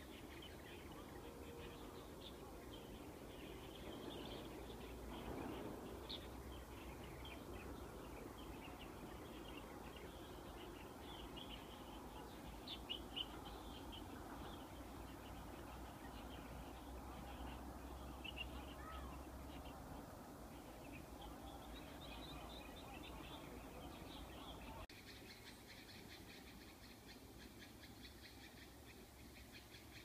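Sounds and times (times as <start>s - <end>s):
faint low background noise: 0.0s - 30.0s
small birds chirping: 0.0s - 30.0s.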